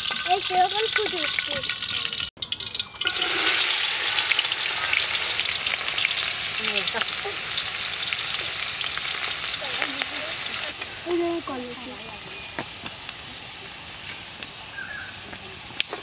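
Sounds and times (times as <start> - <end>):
onions frying in hot oil: 0.0 - 16.0.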